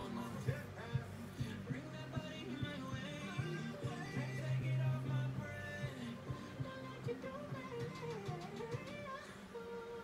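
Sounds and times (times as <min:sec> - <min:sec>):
pop music from television: 0:00.0 - 0:10.0.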